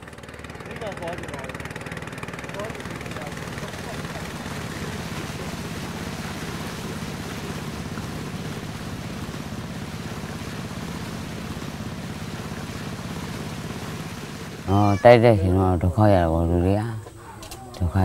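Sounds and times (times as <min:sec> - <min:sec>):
motorboat engine running: 0:00.0 - 0:18.0
water rushing past hull: 0:00.0 - 0:18.0.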